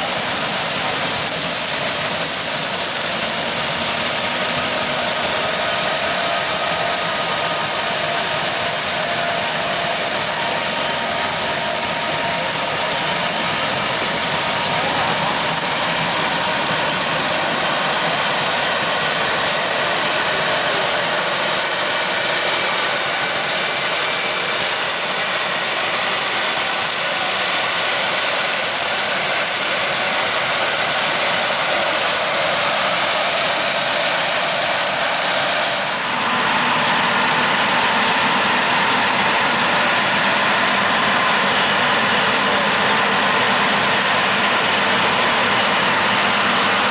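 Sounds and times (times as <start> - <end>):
farm machinery engines running: 0.0 - 46.9.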